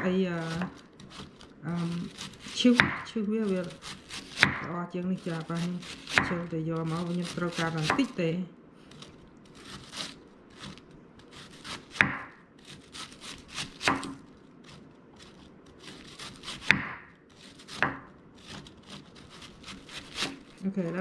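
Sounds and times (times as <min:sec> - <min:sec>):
knife slicing cabbage: 0:00.0 - 0:08.2, 0:08.9 - 0:21.0.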